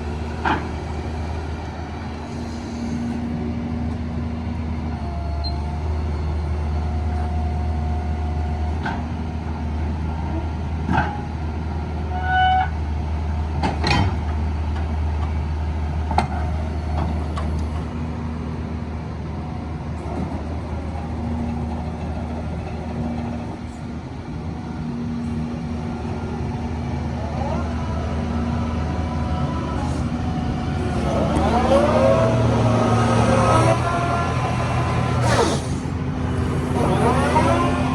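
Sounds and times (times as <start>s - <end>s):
diesel engine running: 0.0s - 12.1s, 13.0s - 37.9s.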